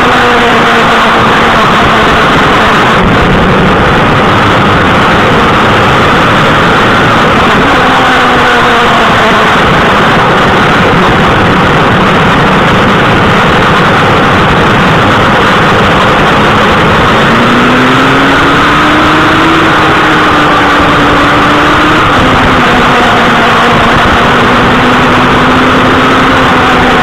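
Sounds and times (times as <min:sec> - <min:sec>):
motorcycle engine at speed: 0:00.0 - 0:27.0
wind noise on microphone: 0:00.0 - 0:27.0.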